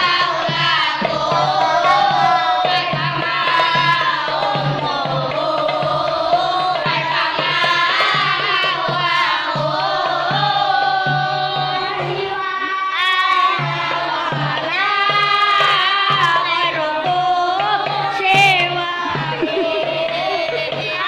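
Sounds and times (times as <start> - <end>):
boys singing together: 0.0 - 21.0
hand drum beat: 0.0 - 21.0.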